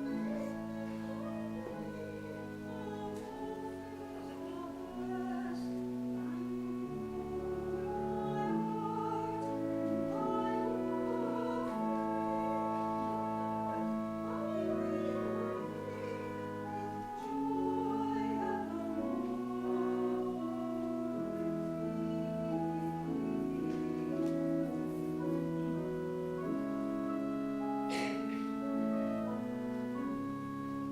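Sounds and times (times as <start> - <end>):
person singing sacred music: 0.0 - 30.9
sustained instrumental chords: 0.0 - 30.9.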